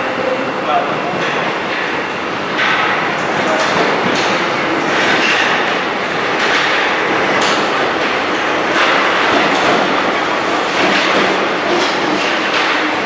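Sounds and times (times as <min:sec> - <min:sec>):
train running into station: 0:00.0 - 0:13.0
wheels clicking on rails: 0:00.2 - 0:13.0.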